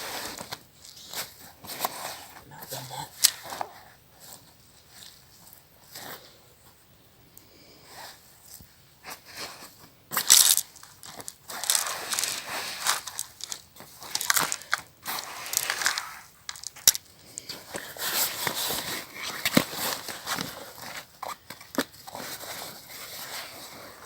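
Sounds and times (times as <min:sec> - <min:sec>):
rustling and crunching handling noise: 0:00.0 - 0:06.9, 0:07.5 - 0:24.0.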